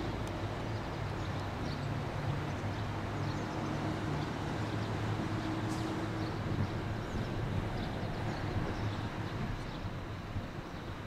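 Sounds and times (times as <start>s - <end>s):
train approaching slowly: 0.0s - 11.0s.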